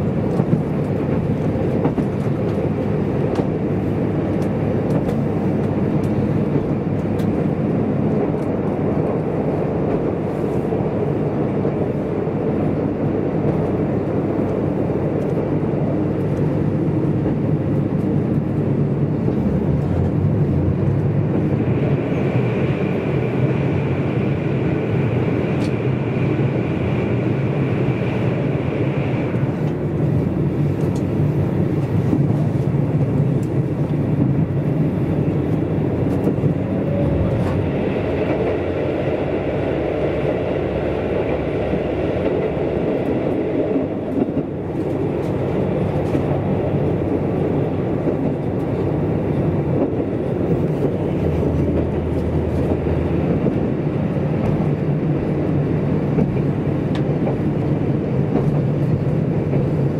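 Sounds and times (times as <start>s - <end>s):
diesel engine drone: 0.0s - 59.9s
wheels rumbling on rails: 0.0s - 59.9s.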